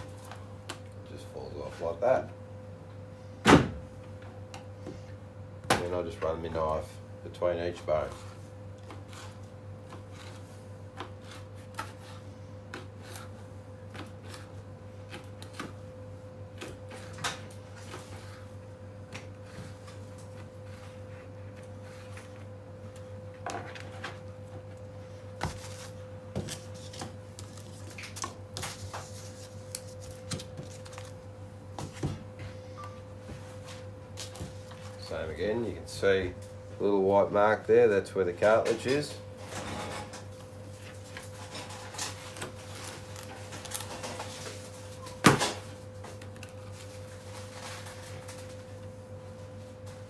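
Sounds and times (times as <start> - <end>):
steady hum: 0.0 - 50.0.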